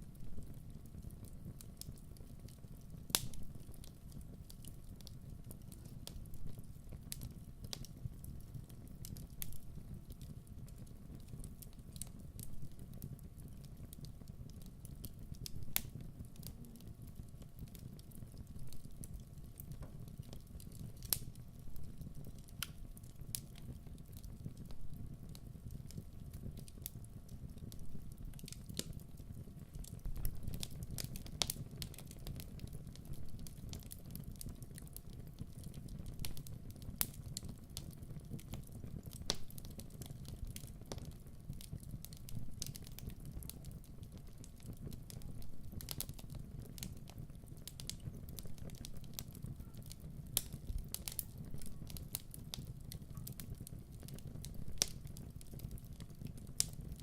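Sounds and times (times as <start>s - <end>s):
fire snaps and pops: 0.0s - 57.0s
low rumble of flames: 0.0s - 57.0s
wood fire crackling: 0.0s - 57.0s.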